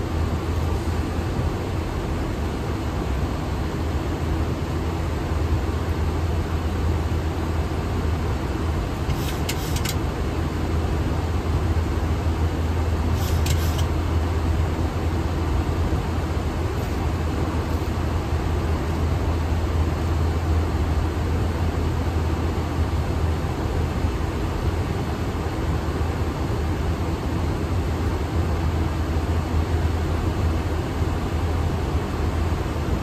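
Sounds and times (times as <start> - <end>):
cockpit airflow and air conditioning: 0.0 - 33.0.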